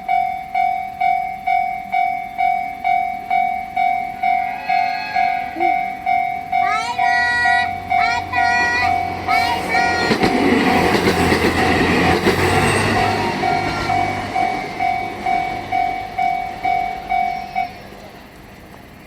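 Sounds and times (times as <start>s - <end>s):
level-crossing bell clanging: 0.0s - 19.0s
train rumble and wheel clatter: 0.0s - 19.0s.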